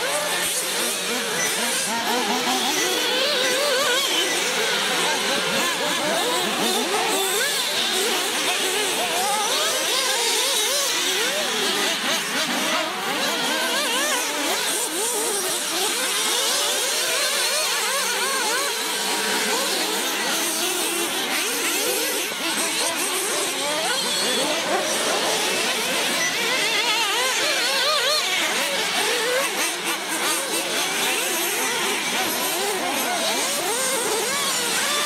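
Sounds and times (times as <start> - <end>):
small buggy engines revving: 0.0 - 35.0.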